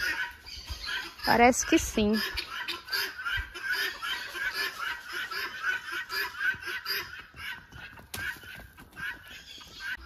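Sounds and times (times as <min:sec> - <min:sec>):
birds chirping chorus: 0:00.0 - 0:10.0
chickens clucking: 0:00.0 - 0:10.0.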